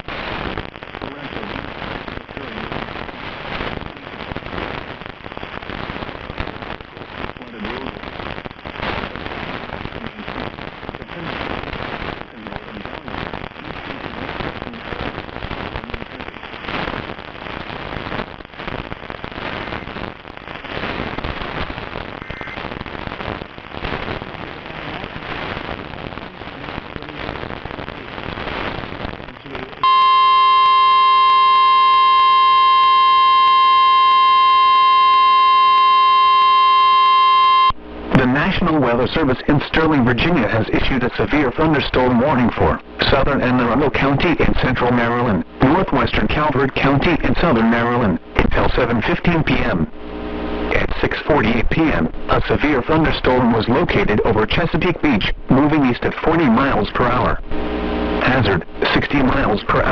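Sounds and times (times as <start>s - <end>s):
crackling popping static: 0.0s - 59.9s.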